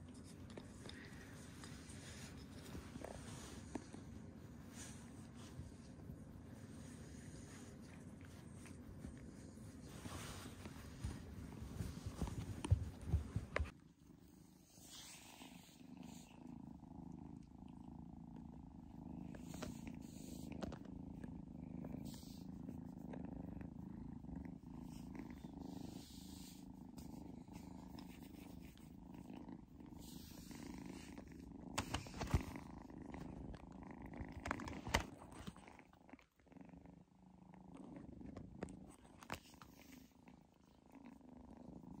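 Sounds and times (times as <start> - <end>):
kitten purring: 0.0 - 42.0.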